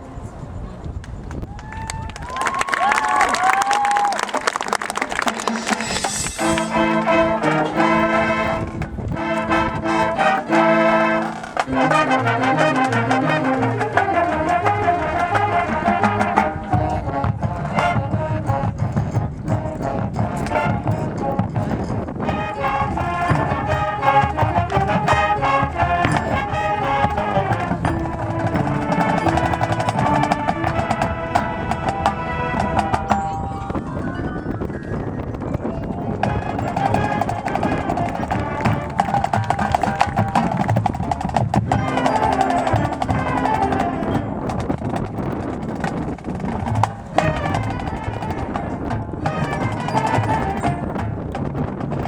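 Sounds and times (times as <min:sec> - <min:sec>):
drums and percussion: 0:03.4 - 0:52.0
brass chords: 0:04.9 - 0:34.0, 0:36.0 - 0:44.7, 0:46.6 - 0:51.8.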